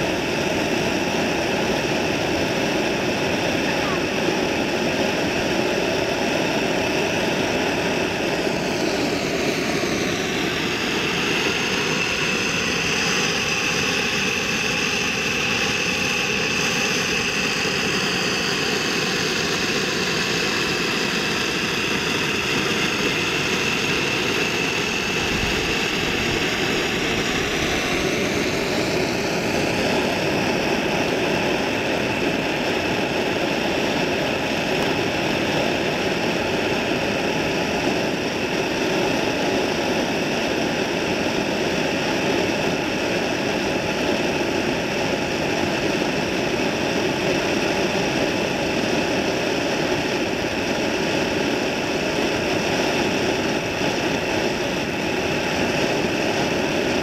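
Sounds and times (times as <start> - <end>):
whirring motor whine: 0.0 - 57.0.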